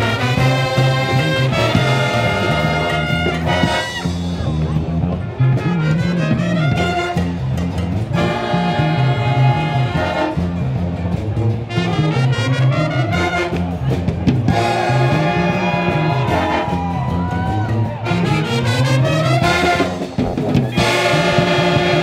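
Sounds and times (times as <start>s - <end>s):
brass street band playing: 0.0s - 22.0s.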